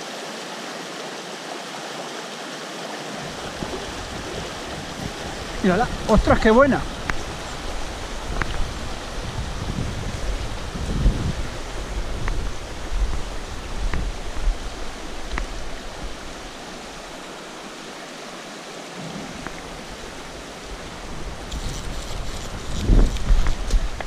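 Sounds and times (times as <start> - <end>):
river rushing over its bed: 0.0 - 24.0.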